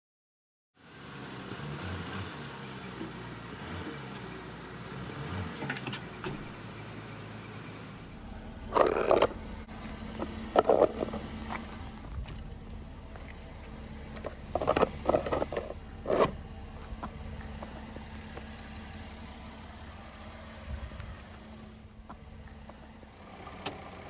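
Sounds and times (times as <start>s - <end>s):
car engine idling: 0.8s - 24.0s.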